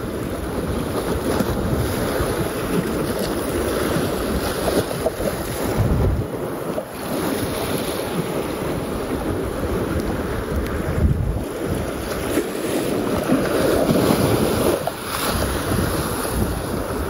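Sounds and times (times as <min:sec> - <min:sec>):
choppy sea water: 0:00.0 - 0:17.0
wind buffeting microphone: 0:00.0 - 0:17.0.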